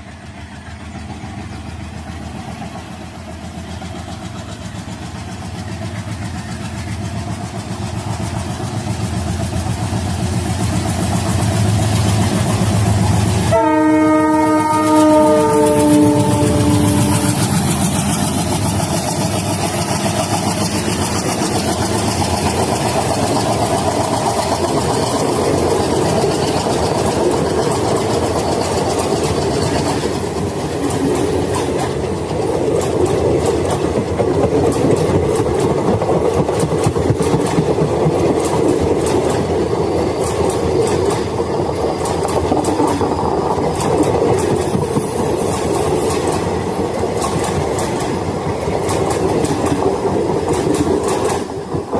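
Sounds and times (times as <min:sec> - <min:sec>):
train rumbling past: 0:00.0 - 0:51.9
wheels clacking over rail joints: 0:00.0 - 0:51.9.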